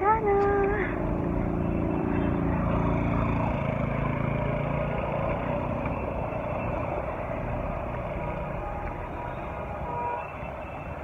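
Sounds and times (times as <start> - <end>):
vehicle engine running: 0.0 - 10.1
traffic rumble: 0.0 - 11.0.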